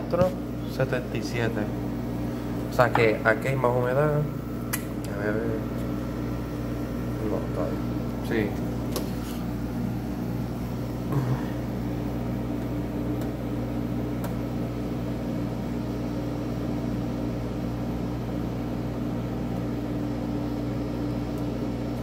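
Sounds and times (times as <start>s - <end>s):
dehumidifier humming: 0.0s - 22.0s.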